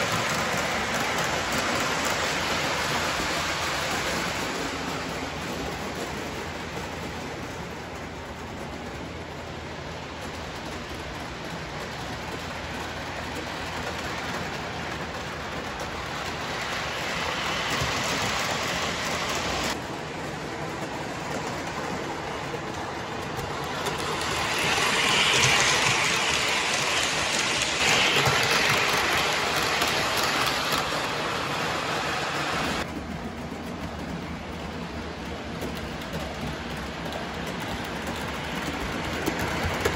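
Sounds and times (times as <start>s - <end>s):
model train rolling on track: 0.0s - 39.9s.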